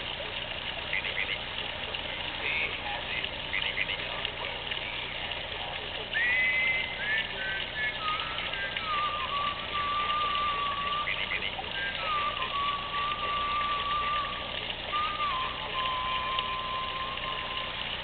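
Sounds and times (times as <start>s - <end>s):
mechanical toy frog singing: 0.8s - 1.5s, 2.4s - 5.2s, 6.0s - 18.0s.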